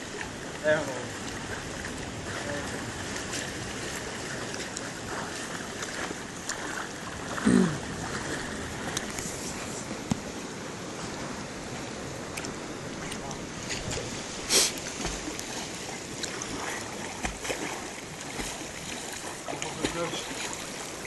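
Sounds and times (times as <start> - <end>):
seawater sloshing and splashing: 0.0 - 21.0.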